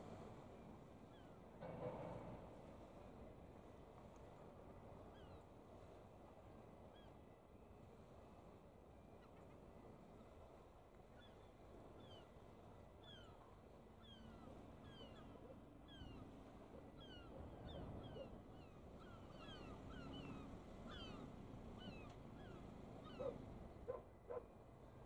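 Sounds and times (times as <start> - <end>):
low steady background noise: 0.0 - 25.0.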